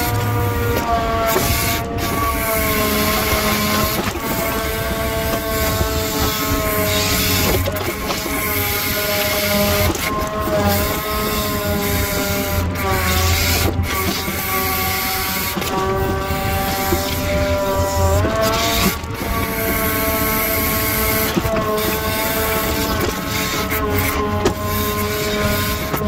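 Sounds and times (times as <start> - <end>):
crane truck engine and hydraulic whine: 0.0 - 26.0.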